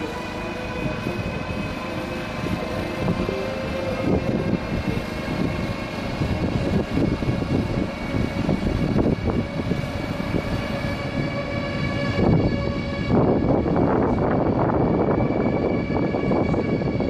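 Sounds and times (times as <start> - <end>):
high-pitched train whine: 0.0 - 17.0
train wheels rumbling: 0.0 - 17.0.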